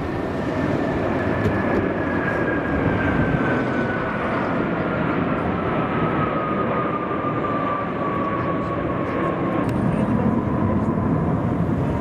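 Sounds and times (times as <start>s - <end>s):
fighter jets flying over: 0.0s - 12.0s.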